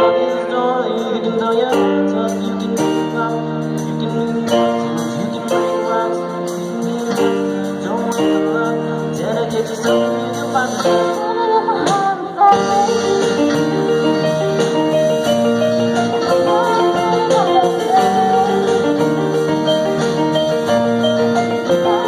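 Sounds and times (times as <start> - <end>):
live band playing: 0.0 - 22.0
person singing: 0.0 - 22.0.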